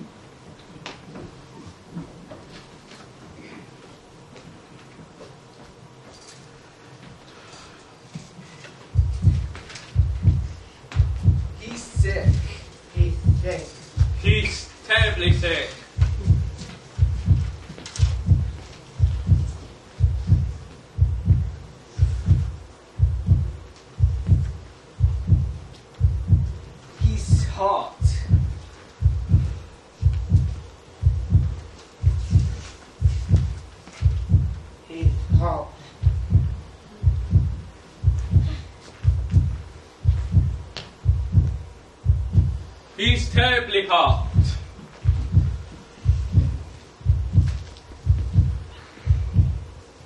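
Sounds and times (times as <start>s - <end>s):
heartbeat thumps: 8.9s - 49.8s.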